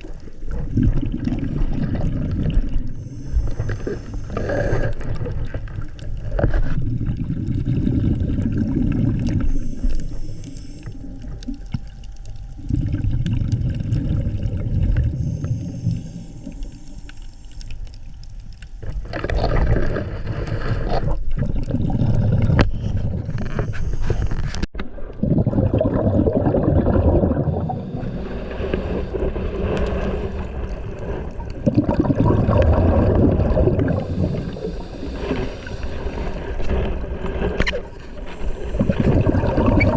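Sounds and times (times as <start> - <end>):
muffled water gurgling: 0.0 - 39.9.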